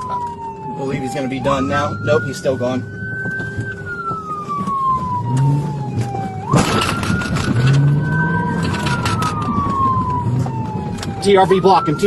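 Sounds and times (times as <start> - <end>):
car engine and road noise: 0.0 - 12.0
police siren wailing: 0.0 - 12.0.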